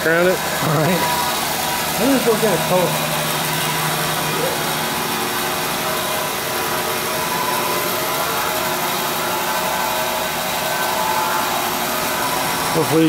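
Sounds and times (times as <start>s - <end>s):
band saw running: 0.0s - 13.0s.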